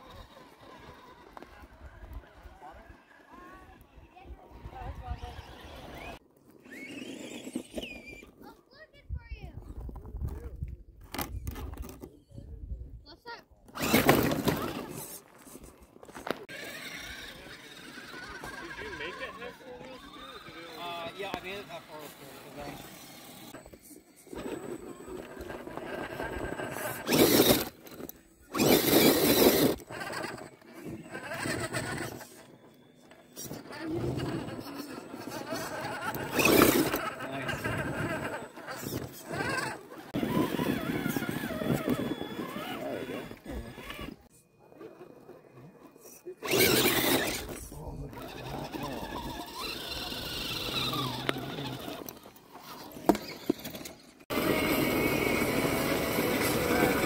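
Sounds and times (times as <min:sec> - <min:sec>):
rc car motor revving: 0:00.0 - 0:08.6, 0:13.7 - 0:44.3, 0:46.3 - 0:57.0.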